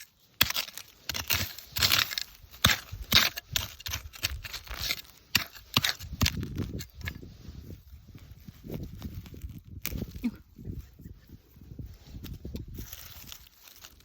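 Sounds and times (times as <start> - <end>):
hand tool digging into soil: 0.0 - 10.4, 11.8 - 14.0
plants being pulled: 0.0 - 10.6, 11.5 - 14.0.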